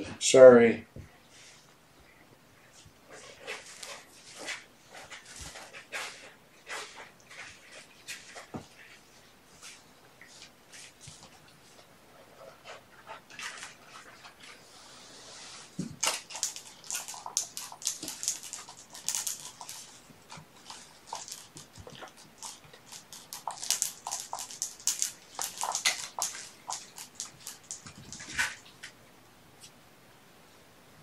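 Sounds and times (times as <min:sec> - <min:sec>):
kittens playing with claws and toys: 0:01.0 - 0:29.0.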